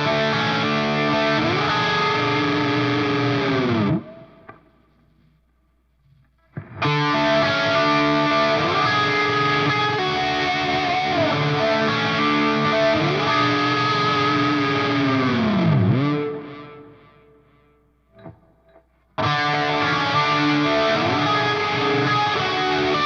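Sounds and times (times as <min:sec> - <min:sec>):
distorted electric guitar chords: 0:00.0 - 0:04.9, 0:06.4 - 0:18.4, 0:19.2 - 0:23.0.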